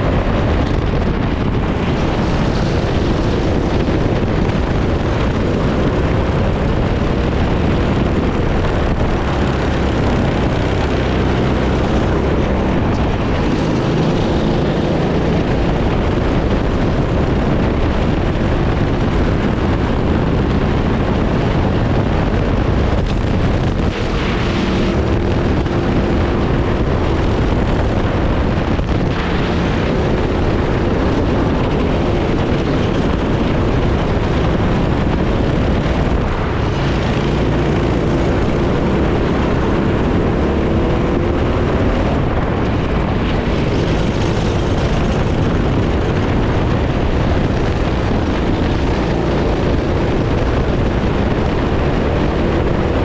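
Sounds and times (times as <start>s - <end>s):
kart engine running hard: 0.0s - 53.0s
wind noise on microphone: 0.0s - 53.0s.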